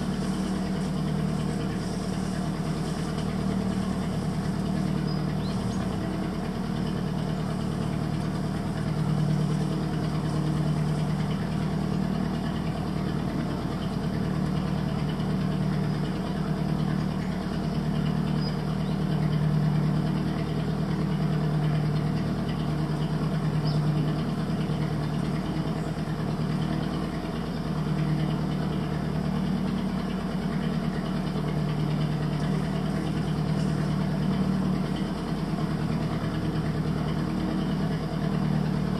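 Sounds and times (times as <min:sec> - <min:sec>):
small boat engine running: 0:00.0 - 0:38.9.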